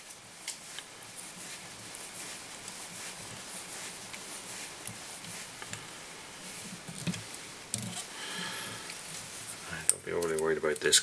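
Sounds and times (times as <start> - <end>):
steady hiss: 0.0 - 11.0
tinsel rustling and ticking: 0.0 - 11.0.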